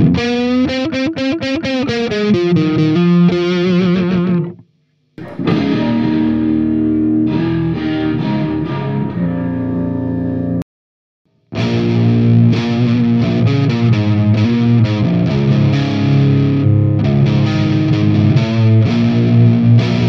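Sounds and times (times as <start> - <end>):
overdriven electric guitar playing: 0.0 - 4.6, 5.2 - 10.6, 11.6 - 20.0.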